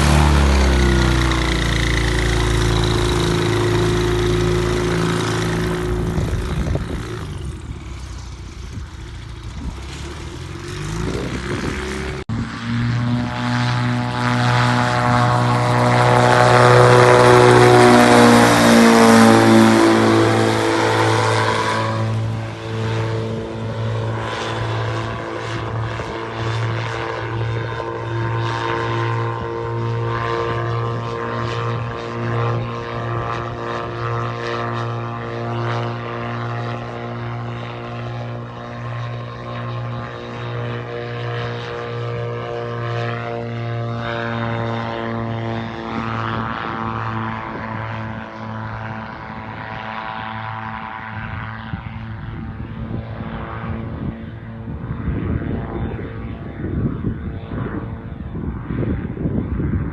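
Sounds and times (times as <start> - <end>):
gyroplane engine and propeller: 0.0 - 59.9.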